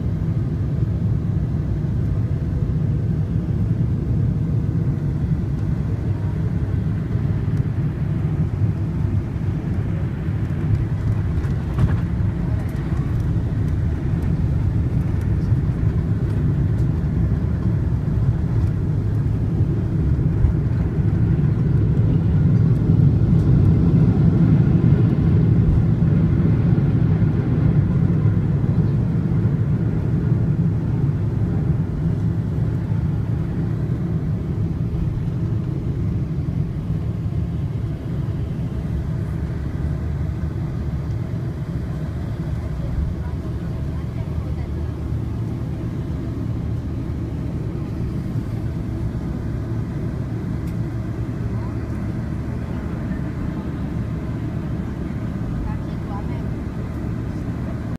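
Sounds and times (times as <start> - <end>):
aircraft cabin roar: 0.0 - 57.9.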